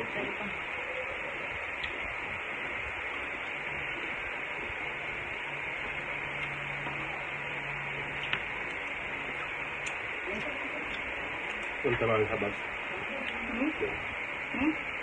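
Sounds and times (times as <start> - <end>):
faint low hum: 0.0 - 15.0
static-like hiss: 0.0 - 15.0.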